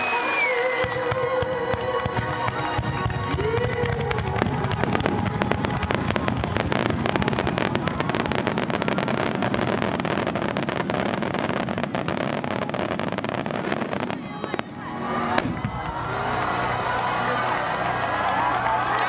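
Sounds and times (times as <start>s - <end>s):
firework crackle: 0.0s - 19.0s.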